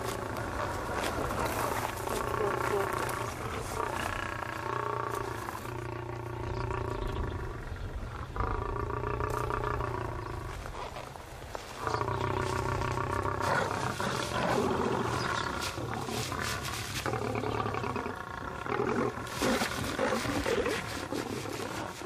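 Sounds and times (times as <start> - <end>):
lions growling and snarling: 0.0 - 22.0.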